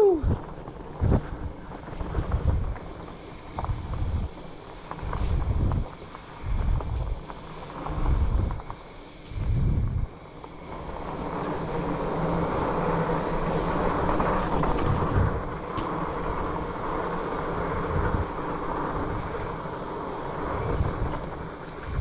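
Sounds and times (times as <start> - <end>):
bike tires rolling on dirt: 0.0 - 22.0
wind buffeting microphone: 0.0 - 22.0.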